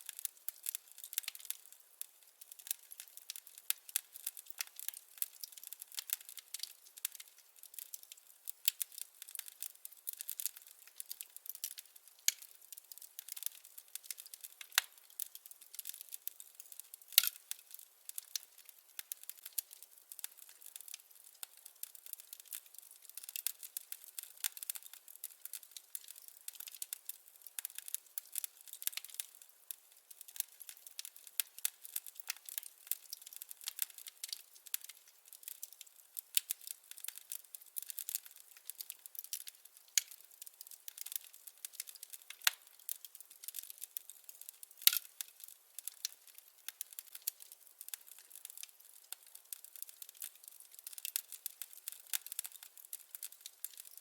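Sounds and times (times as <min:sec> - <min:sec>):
firewood crackling: 0:00.0 - 0:54.0.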